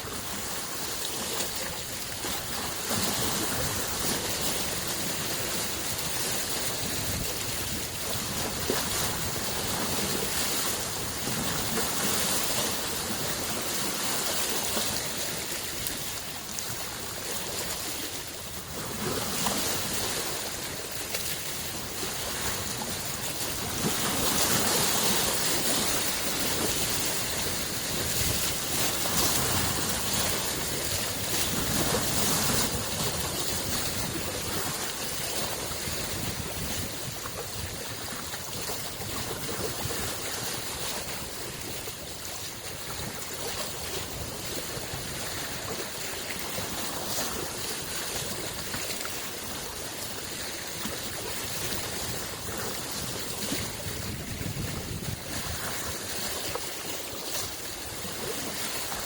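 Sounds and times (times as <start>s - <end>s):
lake waves lapping at shore: 0.0s - 59.0s.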